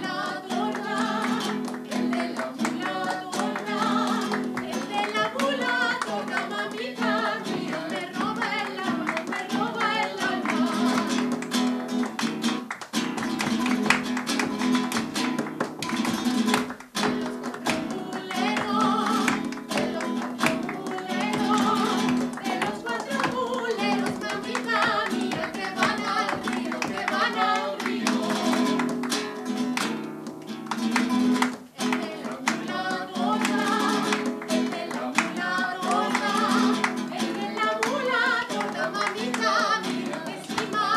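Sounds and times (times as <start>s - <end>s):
people singing: 0.0s - 11.6s, 17.3s - 29.7s, 31.0s - 40.9s
audience clapping along: 0.0s - 40.9s
classical guitar strummed: 0.0s - 40.9s.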